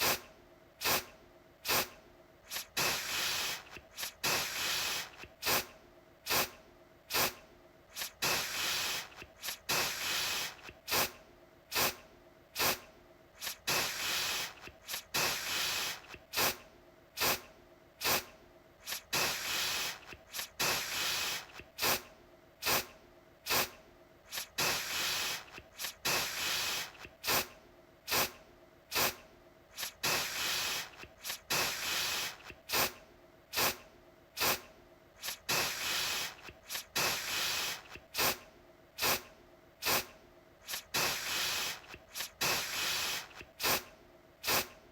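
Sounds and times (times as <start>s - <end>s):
aerosol can spraying: 0.0s - 0.2s, 0.8s - 5.7s, 6.3s - 12.0s, 12.6s - 12.8s, 13.4s - 16.6s, 17.2s - 22.9s, 23.5s - 27.5s, 28.1s - 33.8s, 34.4s - 38.4s, 39.0s - 44.8s.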